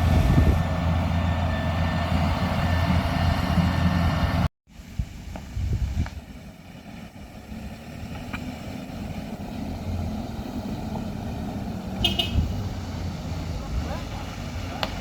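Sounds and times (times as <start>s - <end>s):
heavy vehicle engine running: 0.0s - 4.5s, 6.1s - 15.0s.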